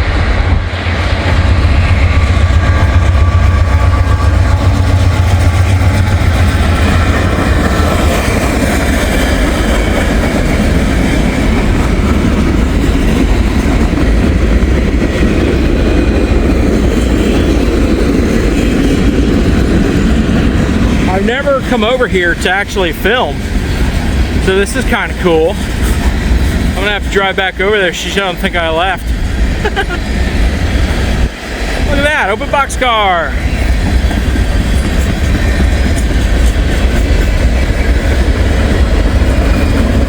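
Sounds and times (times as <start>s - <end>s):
freight cars clattering on rails: 0.0s - 32.8s, 33.5s - 40.0s
heavy low train drone: 0.0s - 40.0s.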